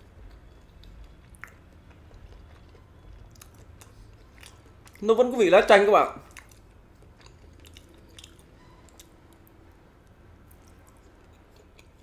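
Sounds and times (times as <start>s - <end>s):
faint chewing: 0.0s - 5.0s, 6.2s - 12.0s.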